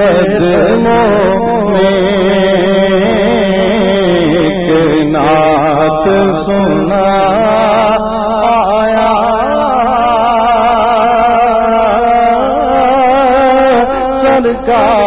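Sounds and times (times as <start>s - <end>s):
man singing melismatic line: 0.0s - 15.0s.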